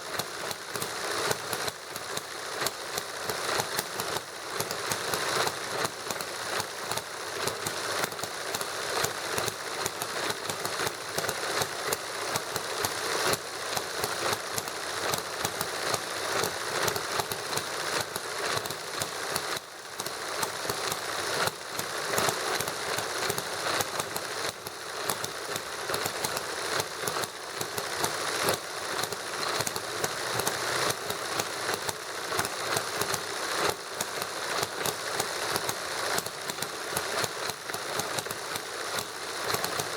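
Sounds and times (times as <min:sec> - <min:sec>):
model engines clattering: 0:00.0 - 0:39.9.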